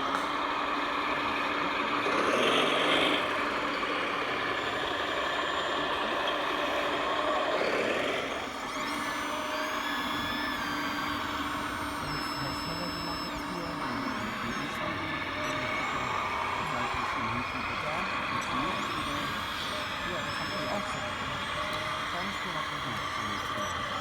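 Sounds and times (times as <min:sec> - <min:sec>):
high electric motor whine: 0:00.0 - 0:24.0
steady hum: 0:02.7 - 0:24.0.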